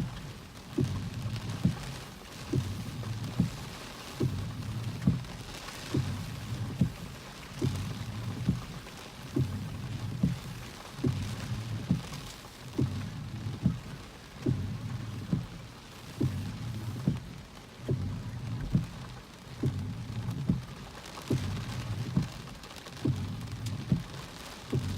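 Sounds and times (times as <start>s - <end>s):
low repeating thump: 0.0s - 1.9s, 2.5s - 8.8s, 9.4s - 15.6s, 16.2s - 19.0s, 19.6s - 24.9s
rain: 0.0s - 24.9s.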